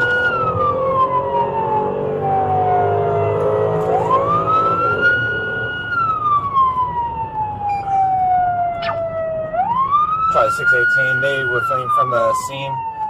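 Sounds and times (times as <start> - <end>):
engine and road rumble: 0.0 - 13.0
police siren wailing: 0.0 - 13.0.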